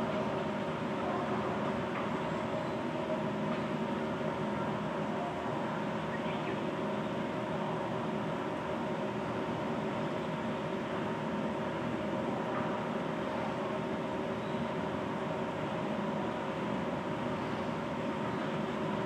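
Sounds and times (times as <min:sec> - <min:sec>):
mechanical hum and hiss: 0:00.0 - 0:19.0.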